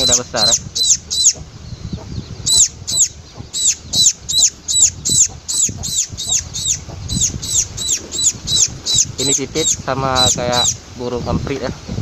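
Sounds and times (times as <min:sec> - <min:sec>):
fledgling bird high thin chirps: 0:00.0 - 0:10.8.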